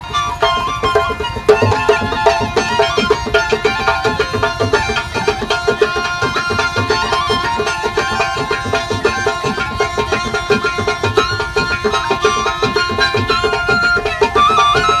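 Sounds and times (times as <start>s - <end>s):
fast drum rhythm: 0.0s - 15.0s
held drone: 0.0s - 15.0s
melody stepping in pitch: 0.0s - 15.0s.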